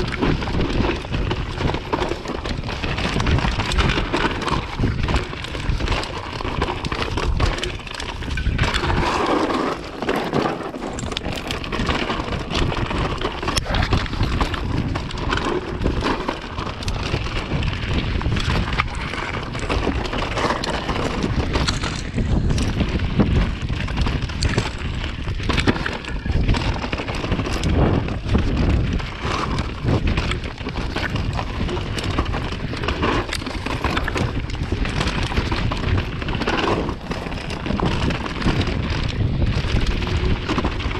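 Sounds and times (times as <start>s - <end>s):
bike knocking and rattling: 0.0s - 40.9s
tyres crunching over dirt and stones: 0.0s - 40.9s
wind buffeting microphone: 0.0s - 40.9s.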